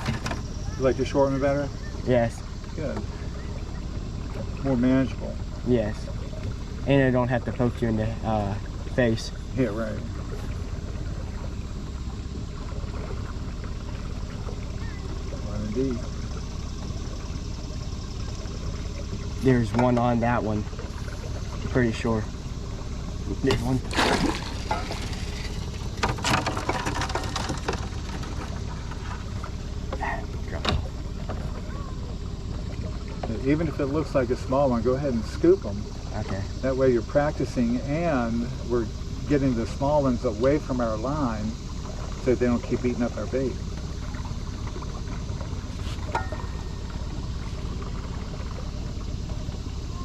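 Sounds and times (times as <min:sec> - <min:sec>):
light knocks and splashes: 0:00.0 - 0:01.1, 0:01.7 - 0:49.9
small boat motor idling: 0:00.0 - 0:50.0.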